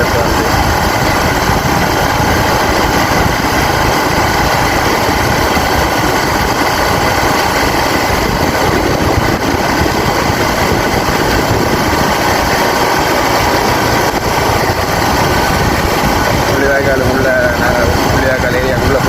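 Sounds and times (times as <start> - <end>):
motorcycle engine running: 0.0 - 19.0
road and rushing air noise: 0.0 - 19.0.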